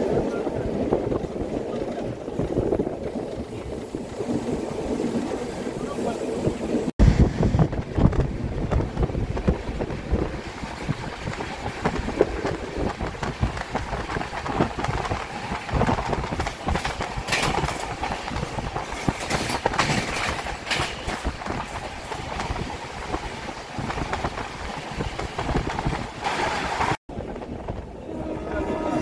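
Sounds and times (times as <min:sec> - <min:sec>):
train rattling clatter: 0:00.0 - 0:29.0
train wheels rumbling on rails: 0:00.0 - 0:29.0.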